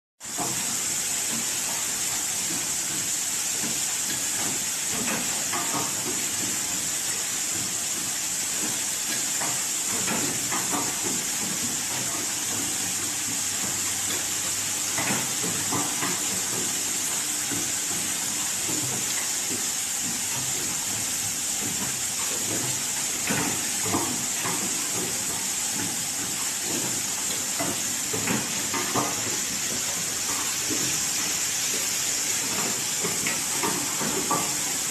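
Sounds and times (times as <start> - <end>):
machine steady high hiss: 0.2 - 34.9
machine clicking and clacking: 0.3 - 34.9.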